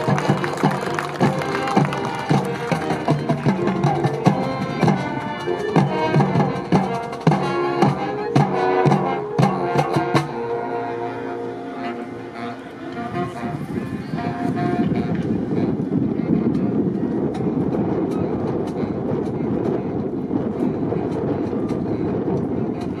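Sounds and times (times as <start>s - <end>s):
wind instruments holding chords: 0.0s - 23.0s.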